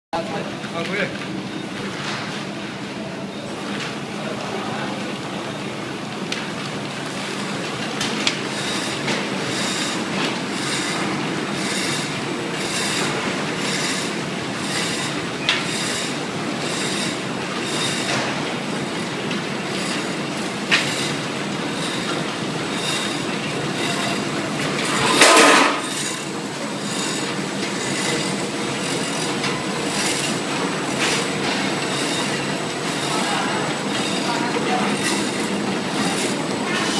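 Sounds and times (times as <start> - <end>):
packing machine clattering: 7.0 - 36.9.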